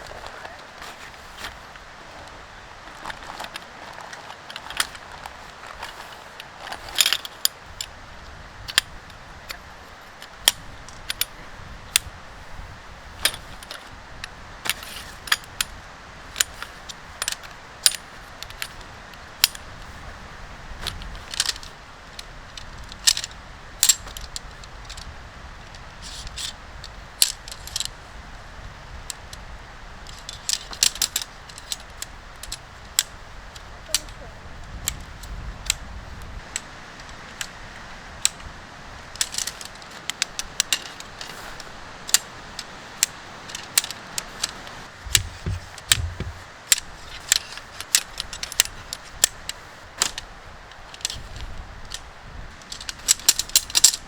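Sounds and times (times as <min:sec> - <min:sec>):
metallic clinks of tent poles: 0:00.0 - 0:54.0
steady low hiss: 0:00.0 - 0:54.0.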